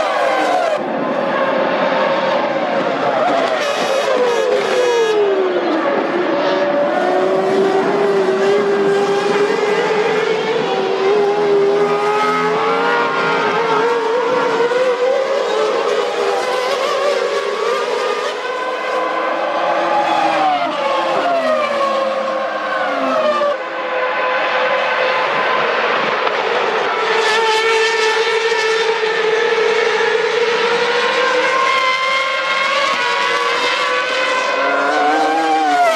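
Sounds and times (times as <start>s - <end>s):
racing car engines at high revs: 0.0s - 35.9s.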